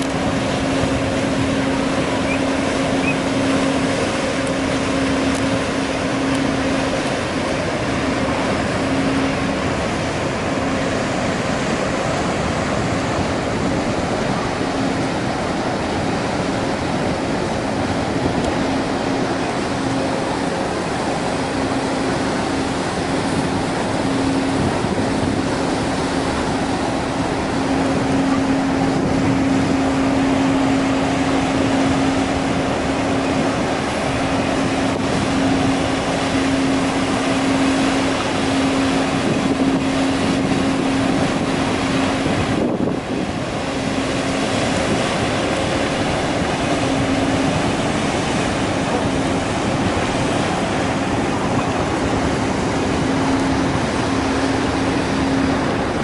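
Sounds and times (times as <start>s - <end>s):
ship engines humming: 0.0s - 56.0s
water rushing from hull: 0.0s - 56.0s.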